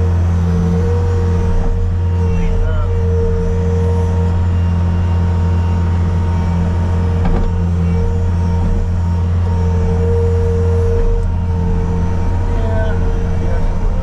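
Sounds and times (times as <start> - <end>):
diesel engine running: 0.0 - 14.0
high whine: 0.0 - 14.0.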